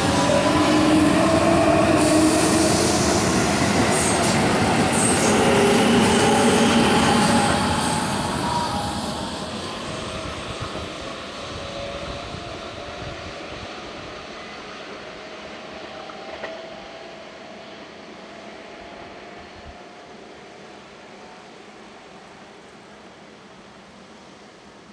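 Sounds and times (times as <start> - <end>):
electric train pulling away: 0.0 - 24.6.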